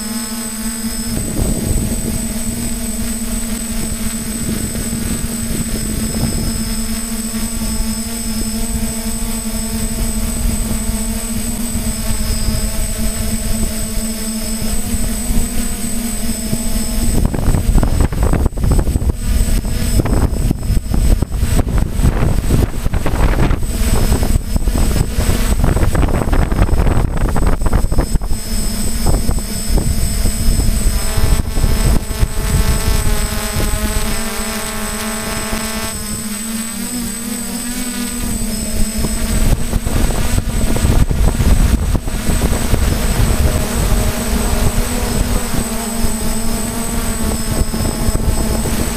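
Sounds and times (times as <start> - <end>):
drone motors and propellers: 0.0 - 48.9
wind rumbling on microphone: 0.0 - 48.9.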